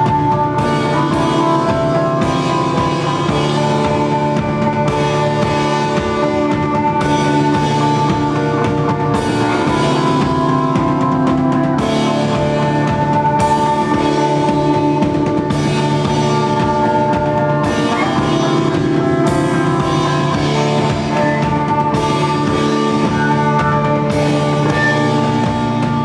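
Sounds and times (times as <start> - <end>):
drum kit beating: 0.0 - 26.0
live band playing: 0.0 - 26.0.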